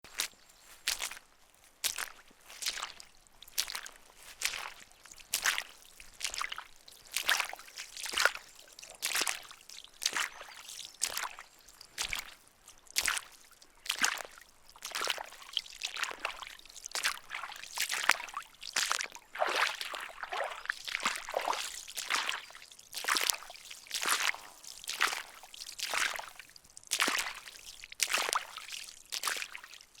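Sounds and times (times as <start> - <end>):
footsteps splashing through water: 0.0 - 30.0.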